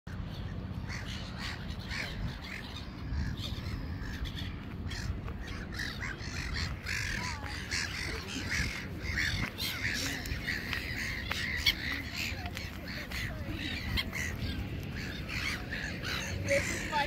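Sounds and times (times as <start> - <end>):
gulls calling: 0.1 - 17.0.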